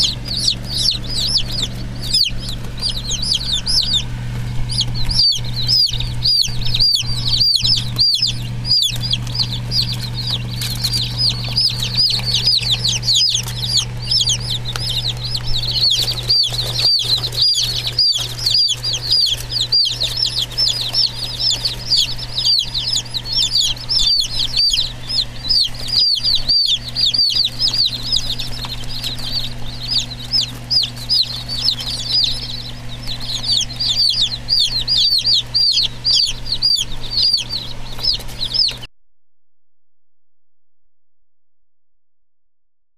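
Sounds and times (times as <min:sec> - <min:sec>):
chicks peeping: 0:00.0 - 0:38.9
low hum: 0:00.0 - 0:38.9.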